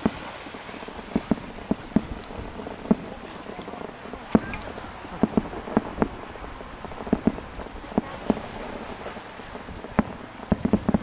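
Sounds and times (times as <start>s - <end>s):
distant fireworks popping: 0.0s - 11.0s.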